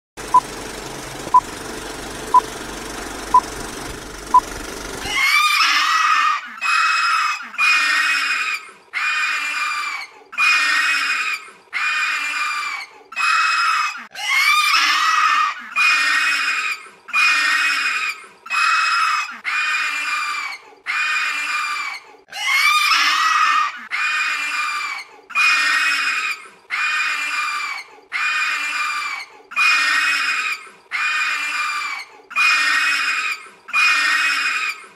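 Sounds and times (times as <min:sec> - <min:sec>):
shrill shrieks: 0:05.1 - 0:34.9.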